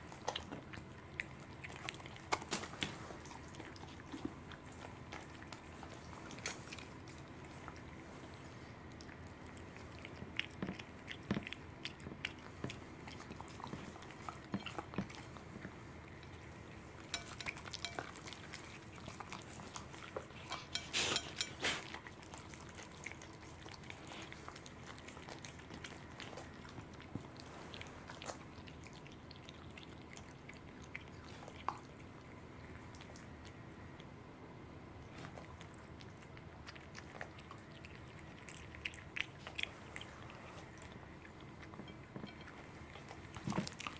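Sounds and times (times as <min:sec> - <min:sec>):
cat chewing and lapping: 0:00.0 - 0:34.3, 0:34.9 - 0:43.9
faint steady hum: 0:00.0 - 0:43.9.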